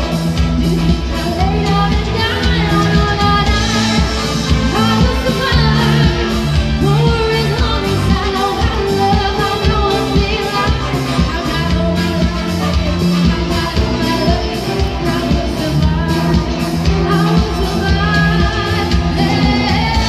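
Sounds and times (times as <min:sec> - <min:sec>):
keyboard accompaniment with beat: 0:00.0 - 0:20.0
woman singing into microphone: 0:00.0 - 0:20.0.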